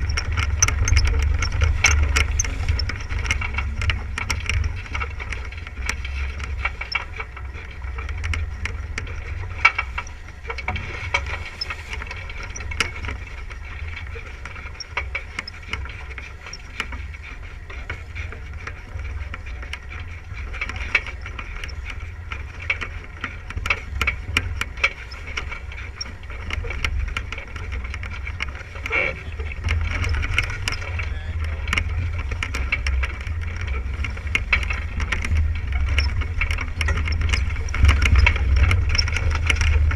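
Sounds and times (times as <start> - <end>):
sharp clicks and rattles: 0.0 - 39.9
water rushing along hull: 0.0 - 39.9.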